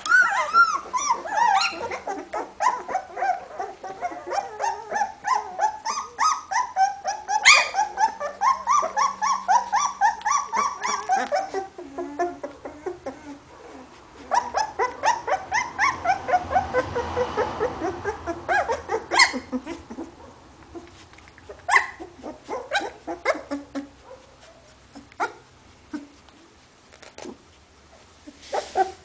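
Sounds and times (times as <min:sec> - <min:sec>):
puppy squealing and whimpering: 0:00.0 - 0:26.3, 0:27.1 - 0:29.0.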